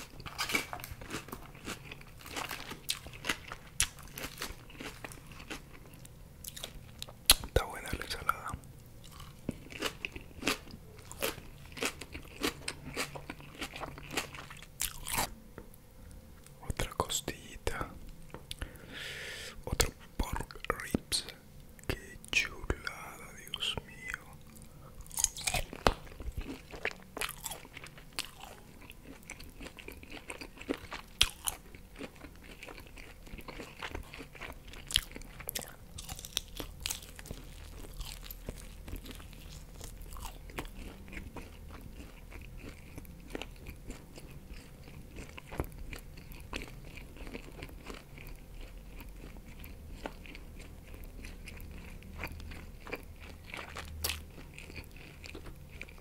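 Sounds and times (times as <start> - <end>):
close-miked chewing of ribs: 0.0 - 15.3, 16.4 - 56.0.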